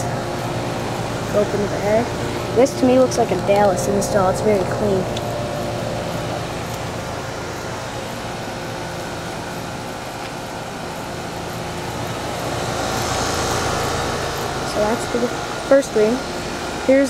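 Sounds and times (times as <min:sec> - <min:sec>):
condenser fans rushing: 0:00.0 - 0:17.0
heat pump compressor hum: 0:00.0 - 0:17.0.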